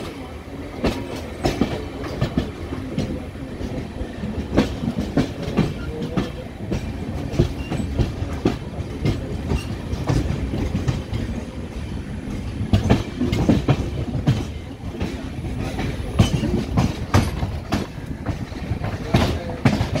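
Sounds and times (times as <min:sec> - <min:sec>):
train rumbling: 0:00.0 - 0:20.0
wheels clacking over rail joints: 0:00.8 - 0:20.0.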